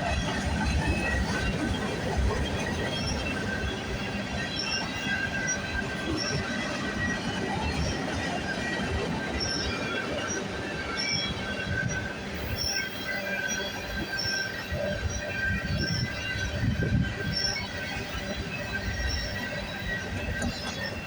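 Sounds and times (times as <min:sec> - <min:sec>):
steel wheels squealing: 0:00.0 - 0:21.0.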